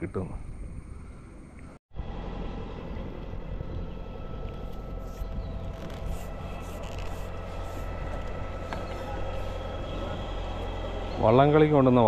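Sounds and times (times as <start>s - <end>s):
faint whining tones: 1.0s - 12.0s
low engine rumble: 1.9s - 12.0s.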